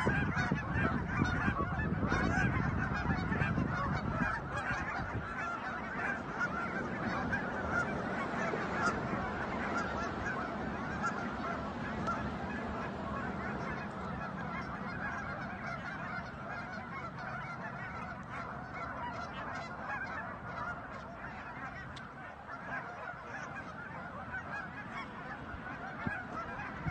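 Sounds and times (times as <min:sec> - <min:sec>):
geese honking: 0:00.0 - 0:26.9.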